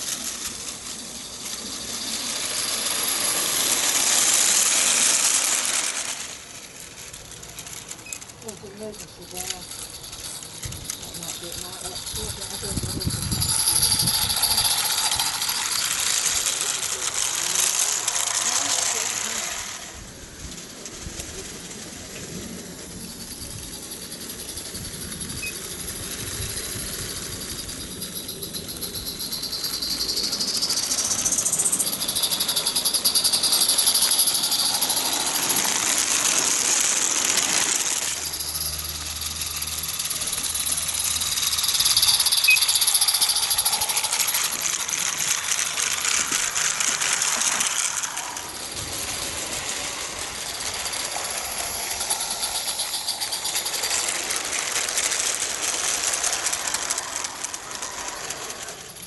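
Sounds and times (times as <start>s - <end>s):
model train clattering on track: 0.0s - 59.0s.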